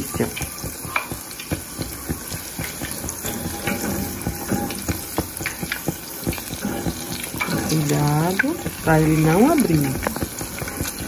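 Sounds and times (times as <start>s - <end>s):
bread frying in hot oil: 0.0s - 11.0s
small crackles and pops: 0.0s - 11.0s.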